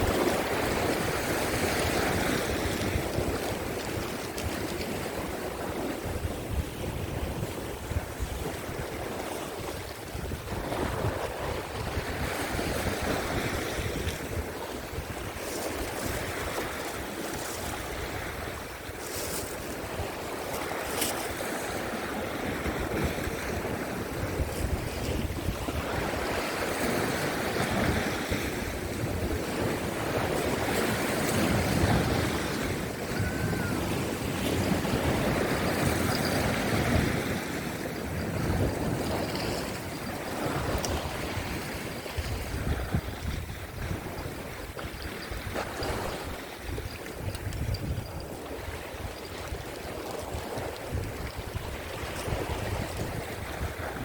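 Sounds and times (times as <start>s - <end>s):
sea surf washing against rocks: 0.0s - 54.0s
wind buffeting the microphone: 0.0s - 54.0s.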